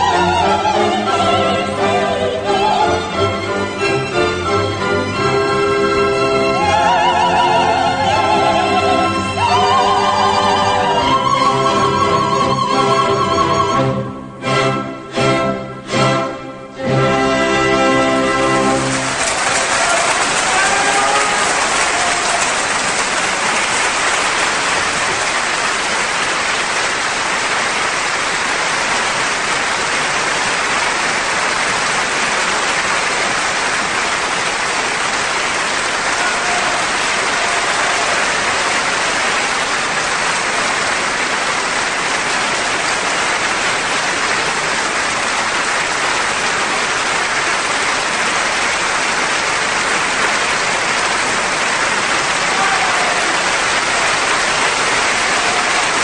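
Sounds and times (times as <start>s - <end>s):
audience applauding: 0.0s - 12.8s, 17.6s - 56.0s.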